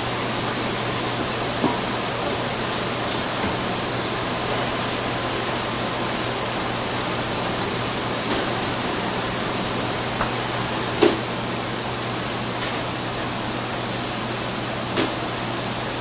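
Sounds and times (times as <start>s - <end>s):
exhaust fan hissing: 0.0s - 16.0s.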